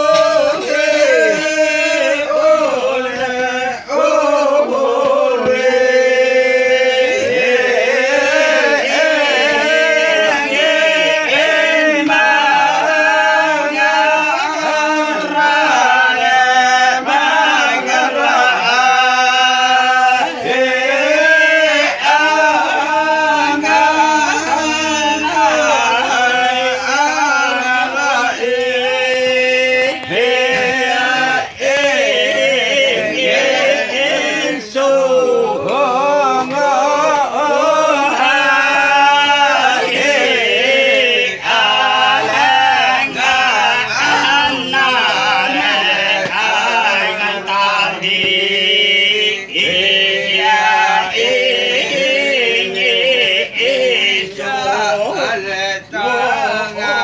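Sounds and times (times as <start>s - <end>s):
voices chanting a slow melody: 0.0s - 57.0s.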